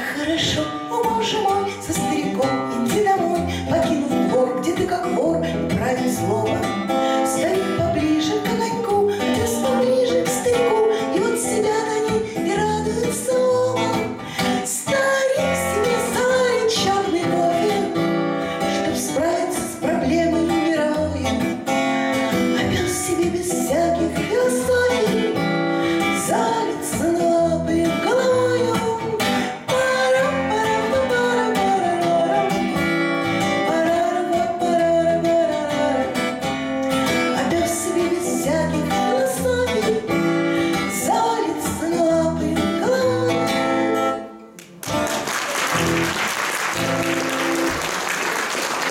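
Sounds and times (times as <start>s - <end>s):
woman singing: 0.0s - 44.3s
acoustic guitar: 0.0s - 48.9s.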